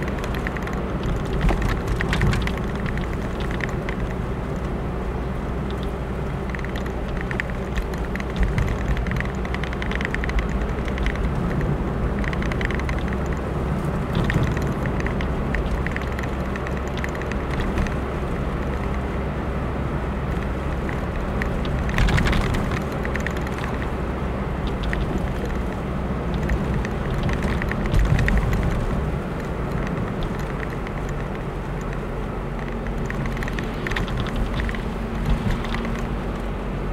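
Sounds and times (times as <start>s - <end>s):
light ticks and rattles: 0.0s - 36.9s
vehicle engine and tyre noise: 0.0s - 36.9s.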